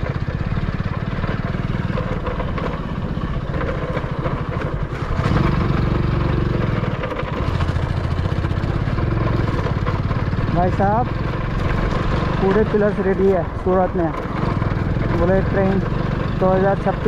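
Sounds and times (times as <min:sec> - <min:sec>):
small vehicle engine running: 0:00.0 - 0:17.0.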